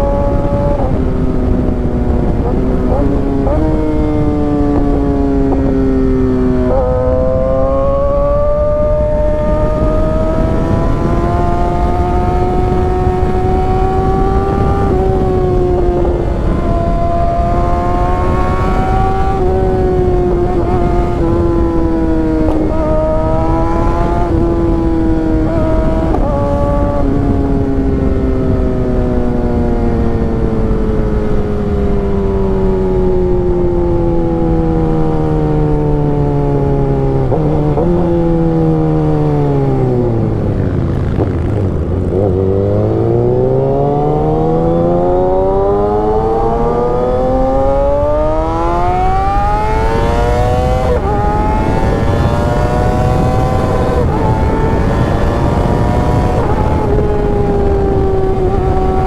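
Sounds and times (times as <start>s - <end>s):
motorcycle engine running: 0.0s - 33.5s, 37.1s - 59.0s
wind and road noise: 0.0s - 59.0s.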